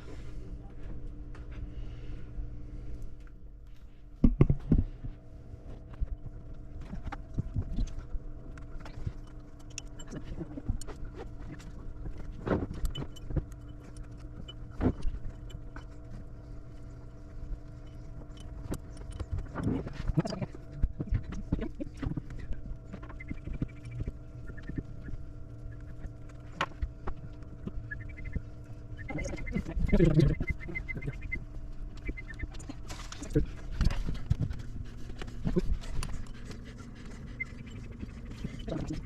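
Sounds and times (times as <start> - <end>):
steady hum: 0.0 - 39.0.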